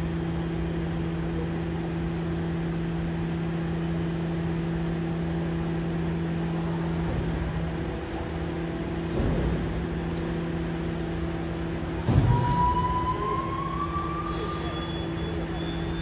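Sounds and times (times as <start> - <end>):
garbage truck humming: 0.0 - 16.0.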